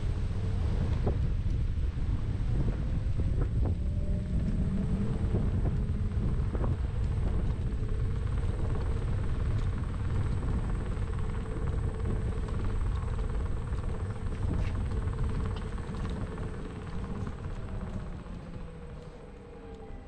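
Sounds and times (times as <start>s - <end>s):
thin steady hum: 0.0s - 20.0s
vehicle low rumble: 0.0s - 20.0s.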